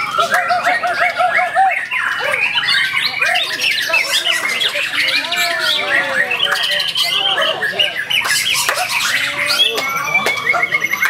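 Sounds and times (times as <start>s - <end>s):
bird singing rapid notes: 0.0s - 11.0s.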